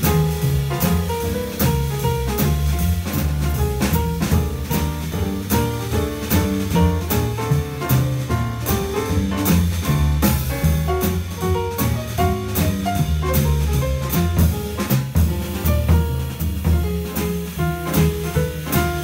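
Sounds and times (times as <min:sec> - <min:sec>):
double bass: 0:00.0 - 0:19.0
drum kit: 0:00.0 - 0:19.0
grand piano: 0:00.0 - 0:19.0.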